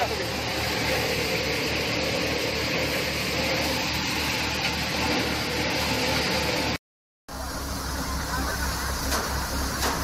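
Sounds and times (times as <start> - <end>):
threshing machine running: 0.0 - 10.0.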